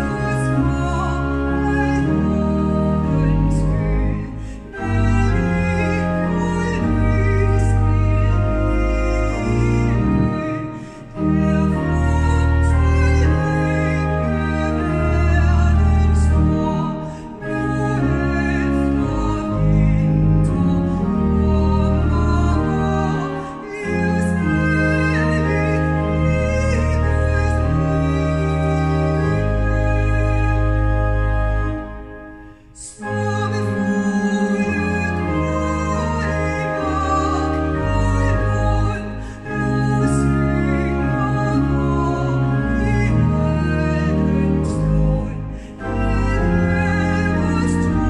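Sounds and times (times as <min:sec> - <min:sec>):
church organ chords: 0:00.0 - 0:48.0.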